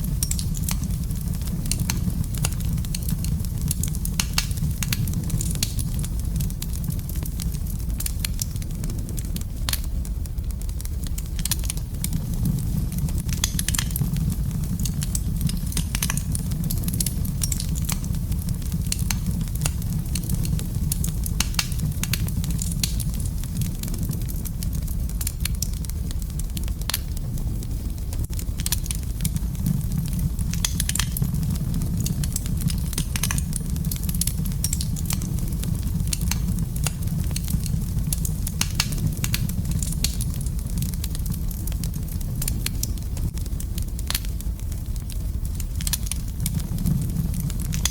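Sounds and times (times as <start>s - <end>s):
fire crackling and popping: 0.0s - 47.9s
fire flames rumbling: 0.0s - 47.9s.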